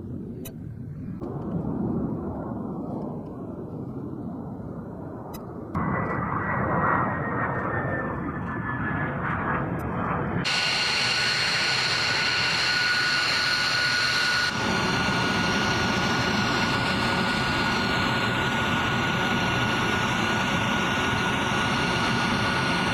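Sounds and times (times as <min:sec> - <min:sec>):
jet engines running: 0:00.0 - 0:22.9.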